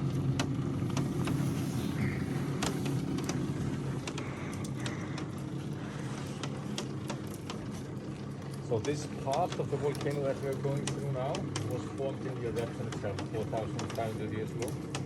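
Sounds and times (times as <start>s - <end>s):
cable lift hoist humming: 0.0s - 15.0s
light clicks and knocks: 0.4s - 15.0s.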